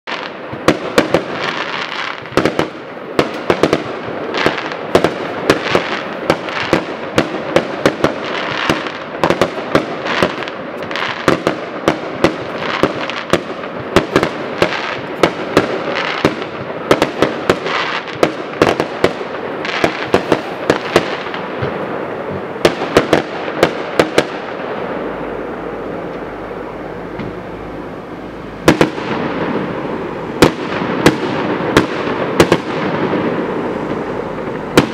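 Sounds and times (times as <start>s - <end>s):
fireworks crackling: 0.0s - 34.9s.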